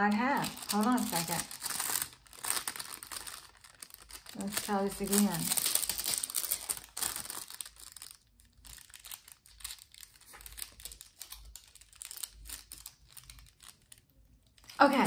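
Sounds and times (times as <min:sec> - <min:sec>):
foil sheet crinkling: 0:00.0 - 0:15.0.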